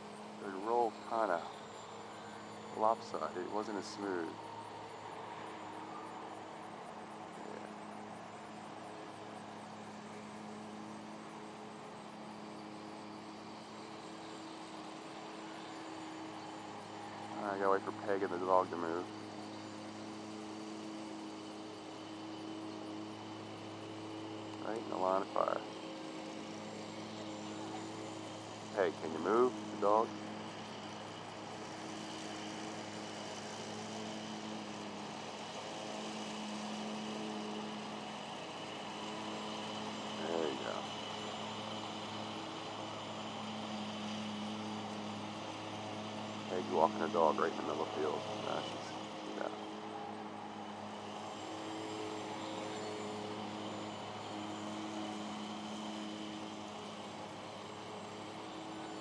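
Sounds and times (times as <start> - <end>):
electric model plane motor humming: 0.0 - 59.0.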